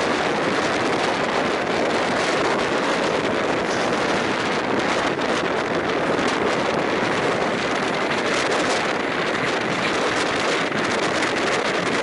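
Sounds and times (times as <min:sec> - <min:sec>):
train wheels on rails: 0:00.0 - 0:12.0
wind on microphone: 0:00.0 - 0:12.0.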